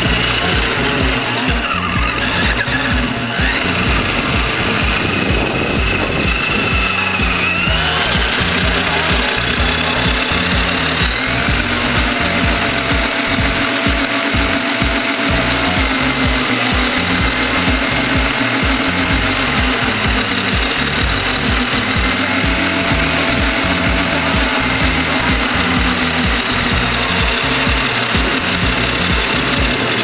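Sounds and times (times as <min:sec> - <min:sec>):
electric motor and gears whirring: 0:00.0 - 0:30.0
music with bass and beat: 0:00.0 - 0:30.0.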